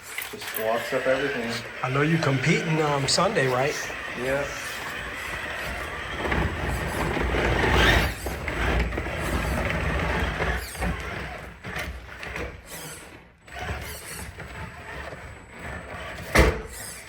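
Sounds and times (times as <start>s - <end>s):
toy car motor whirring: 0.0s - 17.0s.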